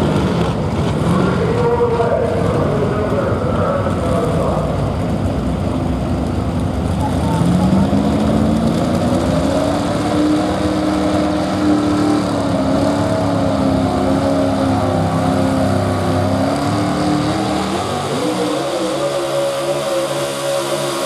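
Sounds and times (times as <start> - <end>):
supercharged engine running: 0.0 - 21.0.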